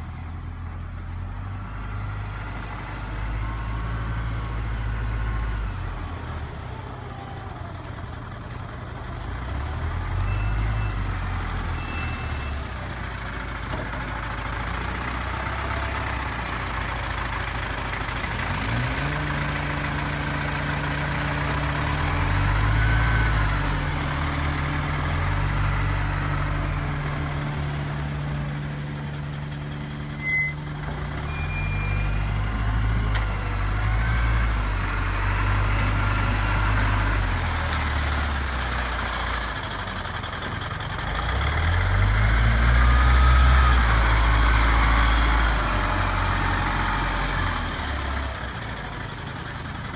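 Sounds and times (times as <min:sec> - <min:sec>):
wheel loader diesel engine revving: 0:00.0 - 0:49.9.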